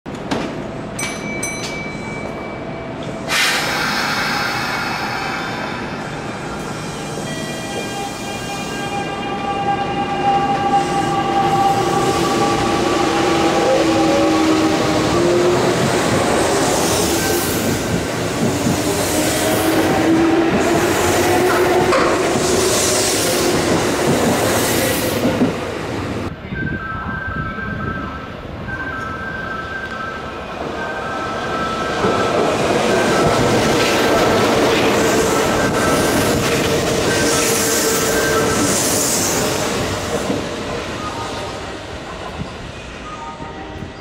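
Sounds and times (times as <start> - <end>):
train rail noise: 0.1 - 44.0.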